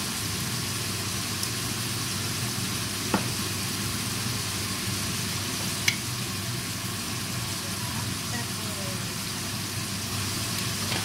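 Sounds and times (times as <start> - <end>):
pork sizzling in a pot: 0.0 - 11.0.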